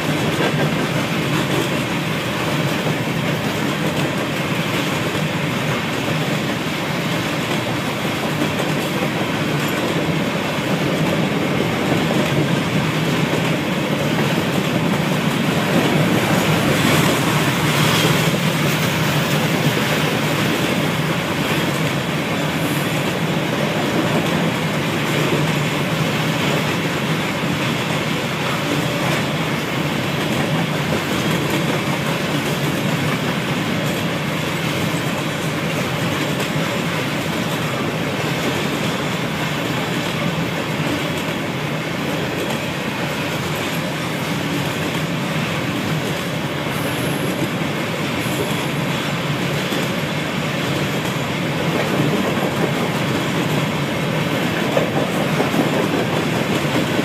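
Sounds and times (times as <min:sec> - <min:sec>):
train wheels clattering on rail: 0:00.0 - 0:57.0.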